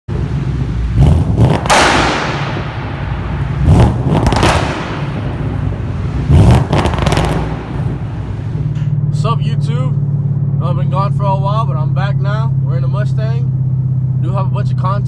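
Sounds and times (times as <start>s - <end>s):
sharp exhaust bangs: 0.1s - 14.2s
engine revving: 0.1s - 14.3s
low engine rumble: 0.1s - 15.0s.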